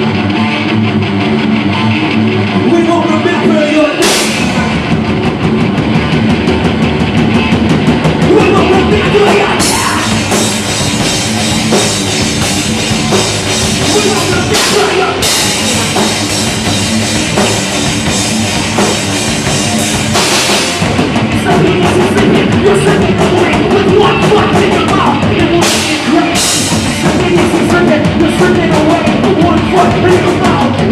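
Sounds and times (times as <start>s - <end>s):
heavy metal band playing: 0.0s - 30.9s.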